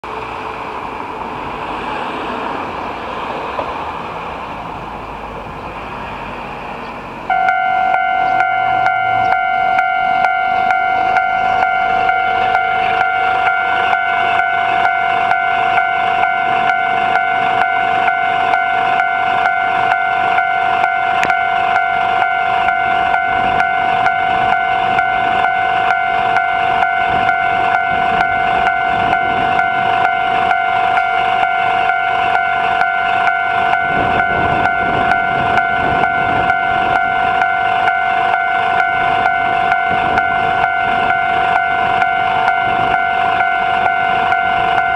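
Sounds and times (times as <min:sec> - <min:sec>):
train rumbling past: 0:00.0 - 0:44.9
level crossing alarm ringing: 0:07.3 - 0:44.9.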